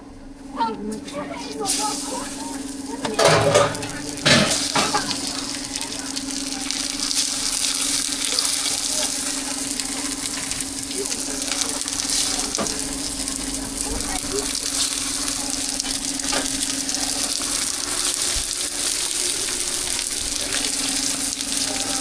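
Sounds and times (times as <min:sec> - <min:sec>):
constant low hum: 0:00.0 - 0:17.6
food sizzling: 0:01.3 - 0:22.0.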